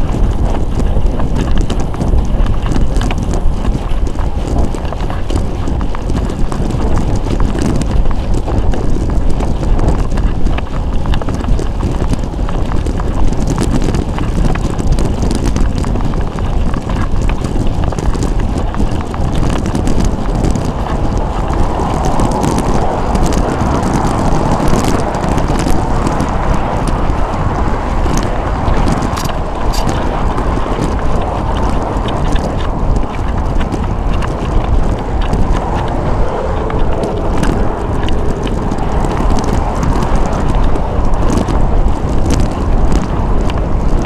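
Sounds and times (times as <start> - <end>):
road rumble: 0.0 - 44.0
wind buffeting microphone: 0.0 - 44.0.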